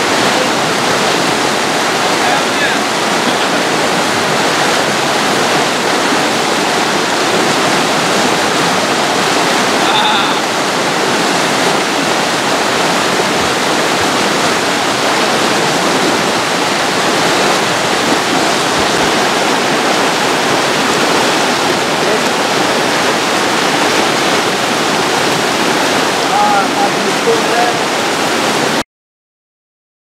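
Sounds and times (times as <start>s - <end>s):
river water rushing over rocks: 0.0s - 28.8s.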